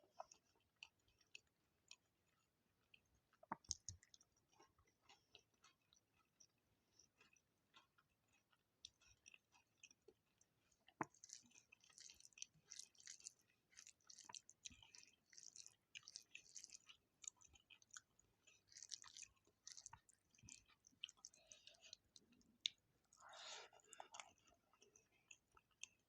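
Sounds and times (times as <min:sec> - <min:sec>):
person chewing: 0:00.1 - 0:26.0.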